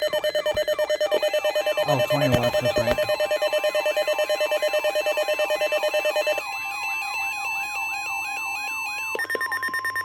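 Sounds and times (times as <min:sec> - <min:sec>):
electronic siren tone: 0:00.0 - 0:10.0
rapid electronic beeping: 0:00.0 - 0:10.0.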